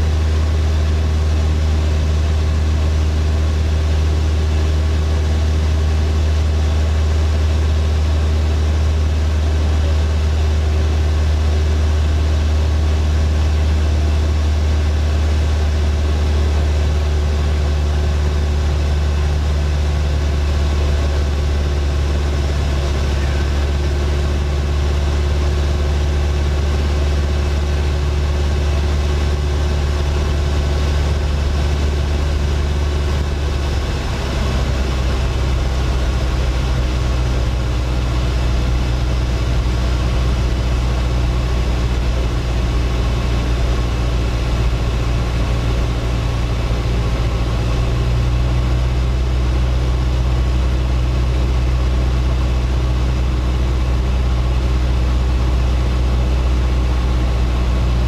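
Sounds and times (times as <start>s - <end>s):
propeller plane engine droning: 0.0s - 58.0s.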